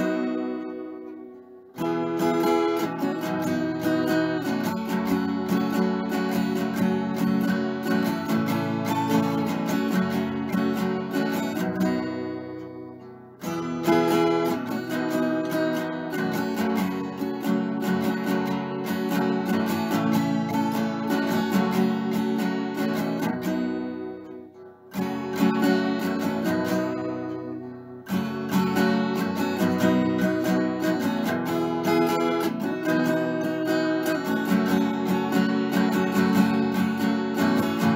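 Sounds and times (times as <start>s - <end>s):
acoustic guitar strumming chords: 0.0s - 37.9s.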